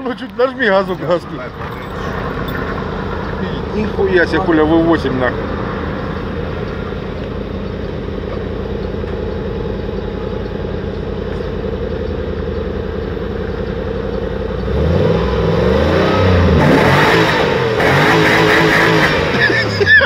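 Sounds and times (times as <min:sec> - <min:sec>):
van engine idling and revving: 0:00.0 - 0:20.0.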